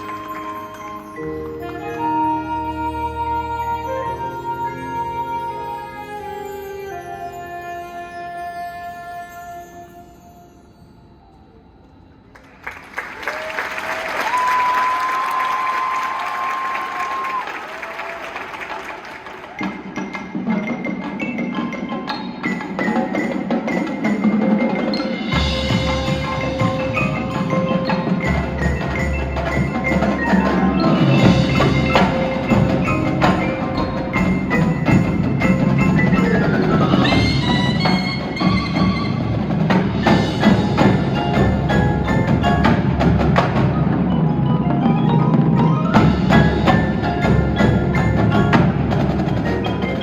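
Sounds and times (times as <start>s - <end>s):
marching band playing: 0.0s - 9.7s, 12.4s - 50.0s
mallet percussion notes: 0.0s - 11.8s, 19.4s - 50.0s.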